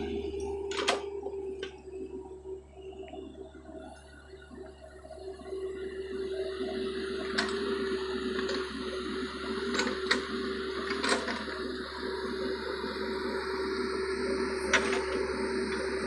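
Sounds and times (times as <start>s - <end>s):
excavator engine hum: 0.0s - 16.0s.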